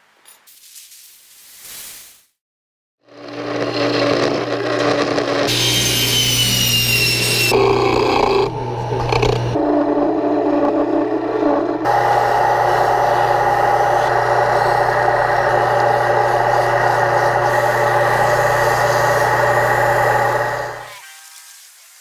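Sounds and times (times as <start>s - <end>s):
chisel cutting spinning wood: 3.1s - 20.9s
wood lathe motor humming: 3.1s - 20.9s.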